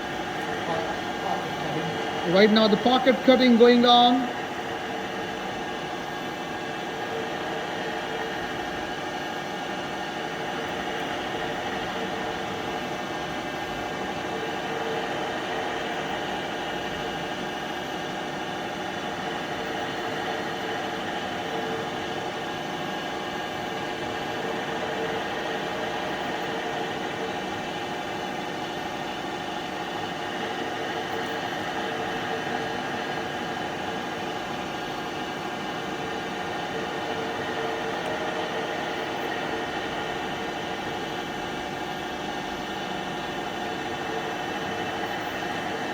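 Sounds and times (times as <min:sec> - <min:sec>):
milling machine hum: 0:00.0 - 0:45.9.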